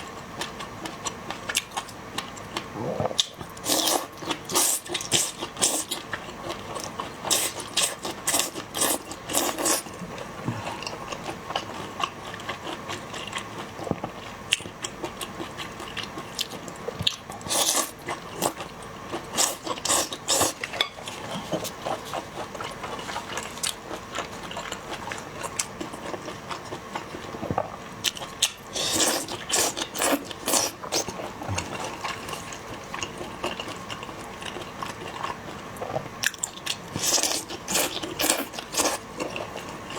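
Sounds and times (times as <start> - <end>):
chewing: 0.4 - 39.9.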